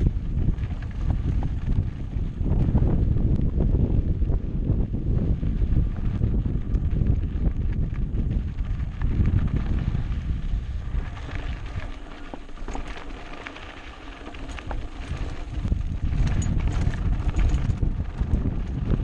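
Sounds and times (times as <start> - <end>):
bike rattling and clicking: 0.0 - 19.0
wind buffeting microphone: 0.0 - 19.0.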